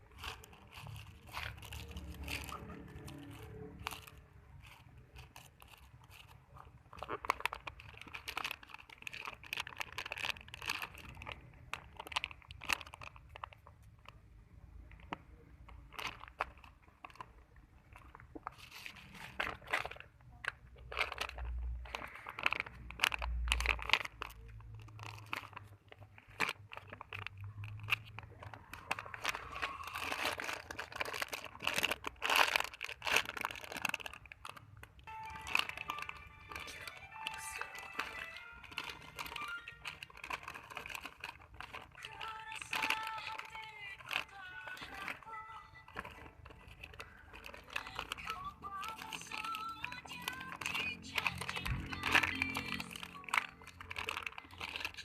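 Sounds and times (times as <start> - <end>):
plastic wrapping crinkling: 0.0 - 55.0.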